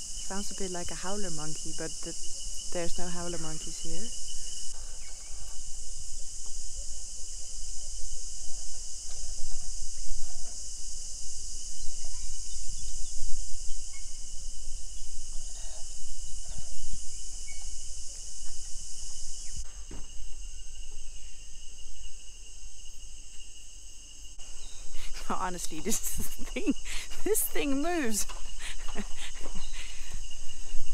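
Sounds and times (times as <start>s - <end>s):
insects lower continuous whine: 0.0s - 30.9s
insects shrill high buzz: 0.0s - 30.9s.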